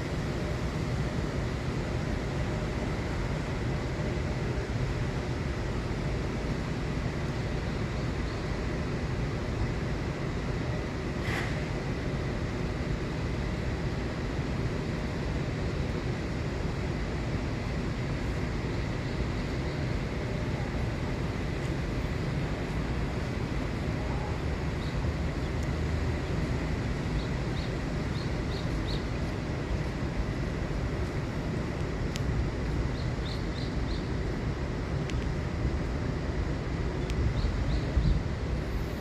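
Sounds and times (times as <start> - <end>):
low rumbling outdoor noise: 0.0 - 39.0.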